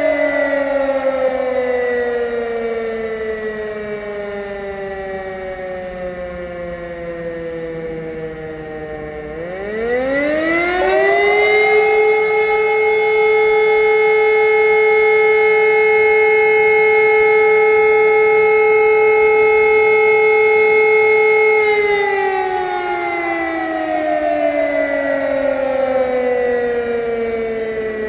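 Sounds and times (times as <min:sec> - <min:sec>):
siren wailing: 0:00.0 - 0:28.0.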